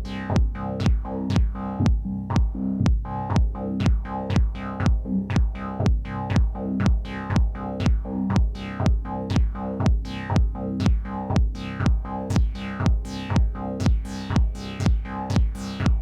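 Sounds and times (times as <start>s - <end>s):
drum machine kick: 0.0s - 16.0s
synthesizer electronic pattern: 0.1s - 16.0s.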